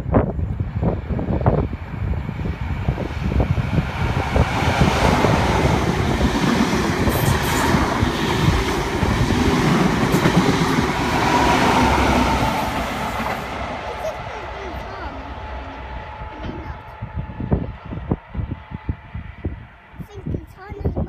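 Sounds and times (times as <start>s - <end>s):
train passing at speed: 0.0s - 21.0s.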